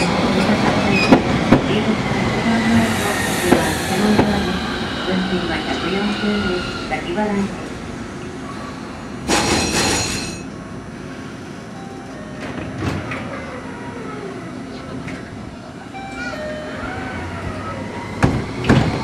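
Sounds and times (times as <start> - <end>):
tram equipment humming: 0.0 - 19.0.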